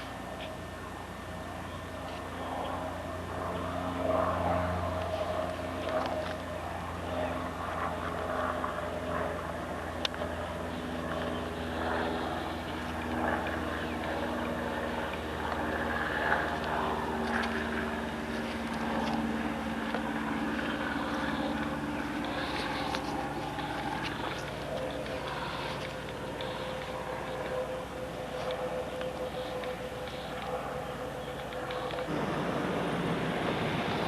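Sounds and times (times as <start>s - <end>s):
engine drone: 0.0s - 34.0s.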